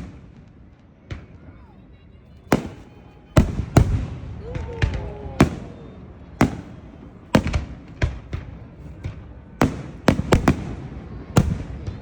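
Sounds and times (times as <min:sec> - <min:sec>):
fireworks bangs: 0:00.0 - 0:01.7, 0:02.4 - 0:12.0.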